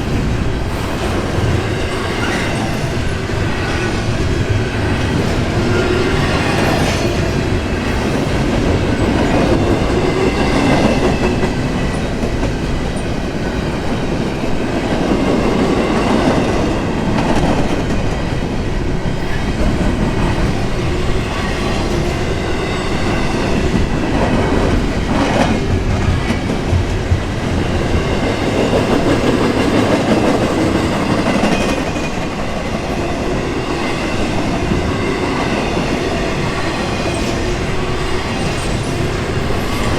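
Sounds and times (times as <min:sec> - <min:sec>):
freight train wheels clattering on rails: 0:00.0 - 0:39.9.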